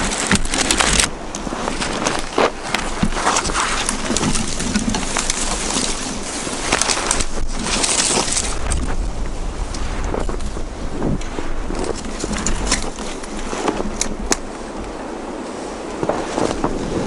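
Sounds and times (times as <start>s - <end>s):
branches scraping and snapping: 0.0s - 17.0s
snow crunching: 0.0s - 17.0s.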